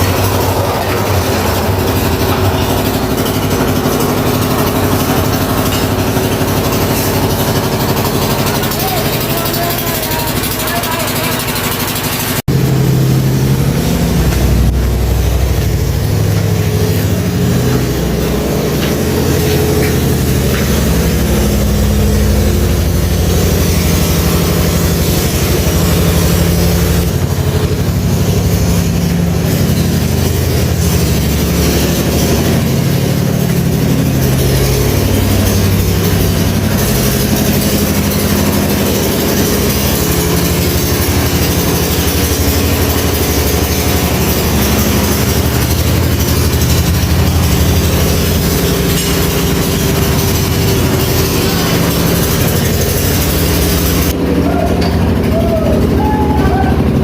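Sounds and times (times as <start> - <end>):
concrete mixer engine running: 0.0 - 57.0.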